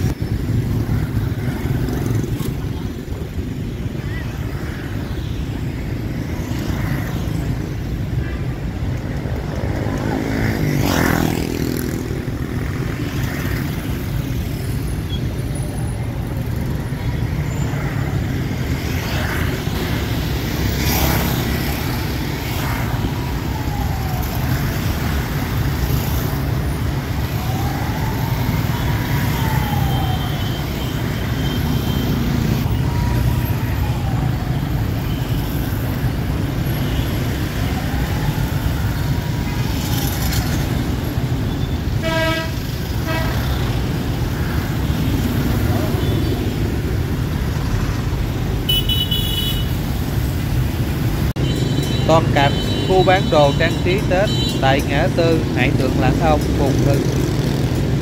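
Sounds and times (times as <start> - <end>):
traffic rumble: 0.0 - 58.0.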